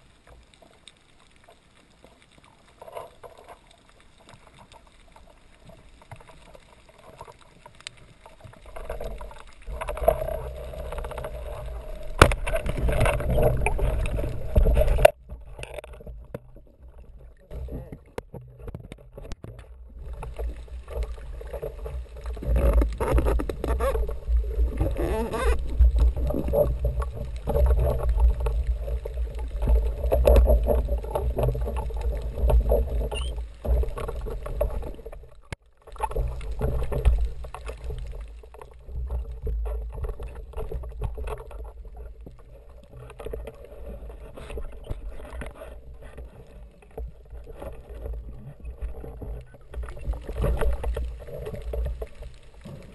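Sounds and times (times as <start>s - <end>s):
muffled underwater rumble: 0.0s - 52.9s
rushing water movement: 0.0s - 52.9s.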